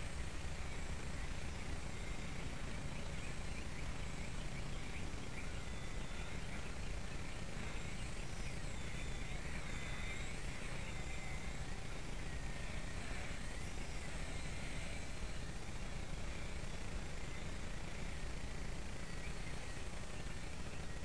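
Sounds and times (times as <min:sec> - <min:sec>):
rc helicopter whine: 0:00.0 - 0:21.0.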